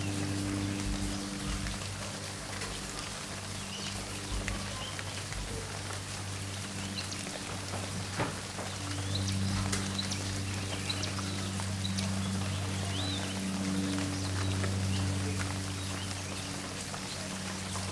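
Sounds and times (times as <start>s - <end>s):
steady rain: 0.0s - 17.9s.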